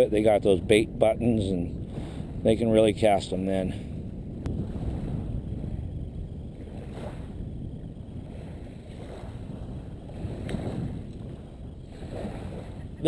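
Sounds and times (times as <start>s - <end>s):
light surf on beach: 0.0s - 13.0s
wind rumbling on microphone: 0.0s - 13.0s.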